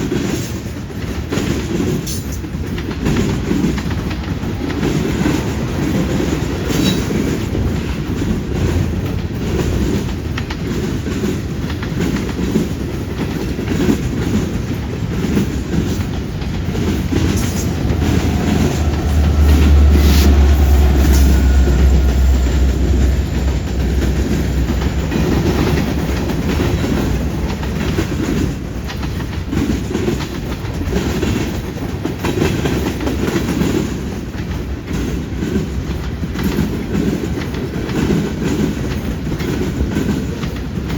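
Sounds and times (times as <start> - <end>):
diesel locomotive drone: 0.0 - 40.9
train wheels clacking over rail joints: 0.0 - 40.9.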